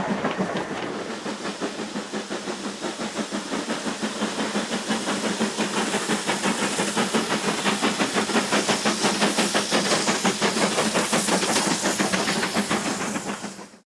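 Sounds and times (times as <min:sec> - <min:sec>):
steam hissing: 0:00.0 - 0:13.8
steam locomotive exhaust beats: 0:00.0 - 0:13.8.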